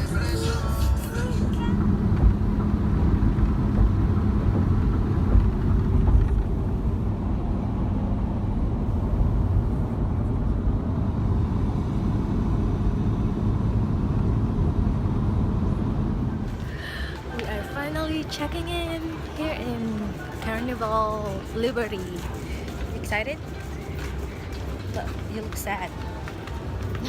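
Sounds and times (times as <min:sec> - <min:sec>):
faint constant hum: 0:00.0 - 0:27.0
vehicle rumbling in motion: 0:00.0 - 0:27.0.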